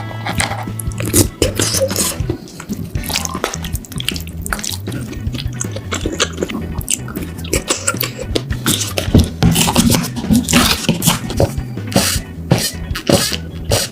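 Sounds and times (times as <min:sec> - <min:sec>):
wet chewing and slurping: 0:00.1 - 0:13.9.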